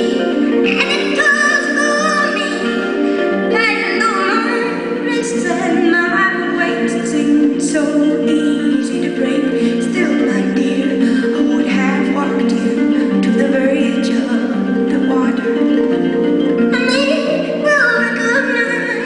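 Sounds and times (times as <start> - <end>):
woman singing with vibrato: 0.0 - 15.6, 16.7 - 19.0
harp accompaniment: 0.0 - 19.0.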